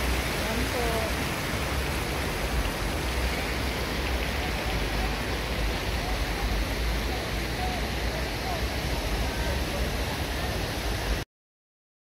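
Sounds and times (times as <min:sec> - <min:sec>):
rushing city ambience: 0:00.0 - 0:11.2.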